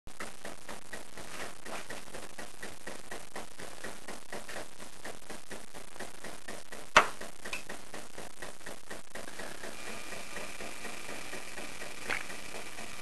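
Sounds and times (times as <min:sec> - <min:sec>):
electronic hiss with crackling: 0:00.1 - 0:13.0.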